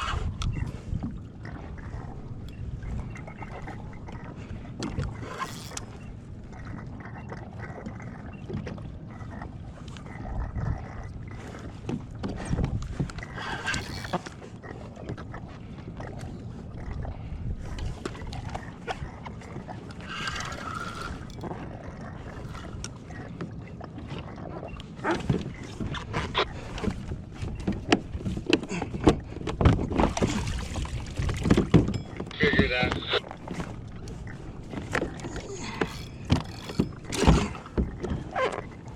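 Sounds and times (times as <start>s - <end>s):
knocks and clicks on hull: 0.0s - 38.9s
water noise: 0.0s - 38.9s
wind: 0.0s - 38.9s.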